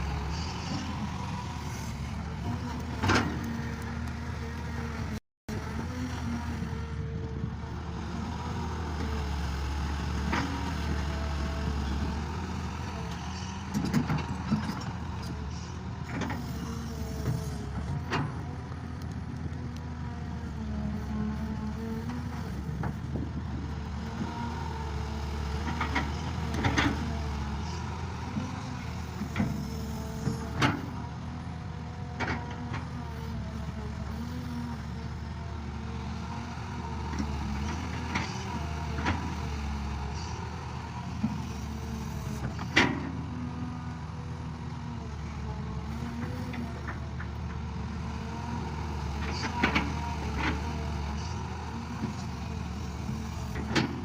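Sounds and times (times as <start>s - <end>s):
farm machine engine running: 0.0s - 54.0s.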